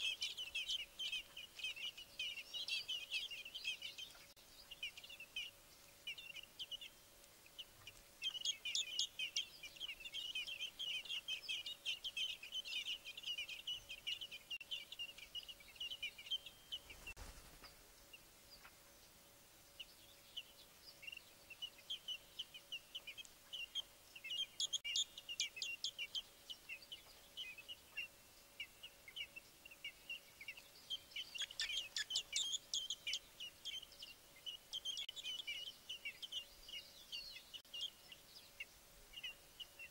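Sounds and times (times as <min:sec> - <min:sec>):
nestlings chirping: 0:00.0 - 0:17.2, 0:19.9 - 0:39.9.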